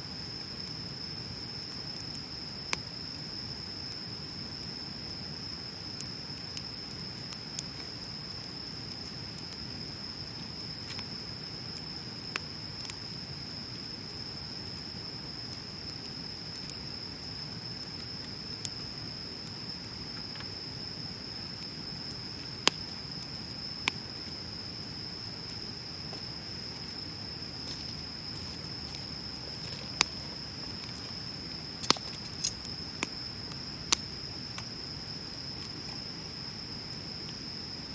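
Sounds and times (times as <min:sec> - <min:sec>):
high-pitched insect trill: 0:00.0 - 0:37.9
bonfire crackling and popping: 0:00.1 - 0:37.9.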